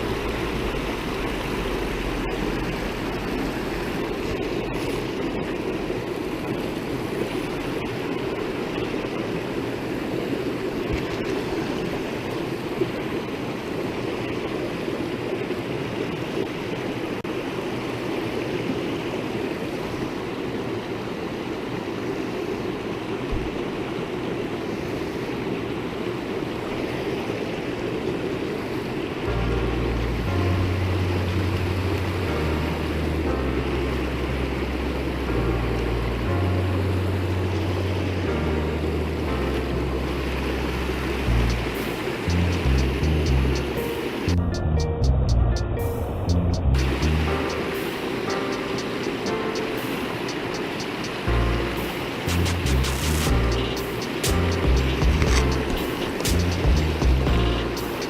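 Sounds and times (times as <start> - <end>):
creek rushing over rocks: 0.0 - 44.4, 46.8 - 58.0.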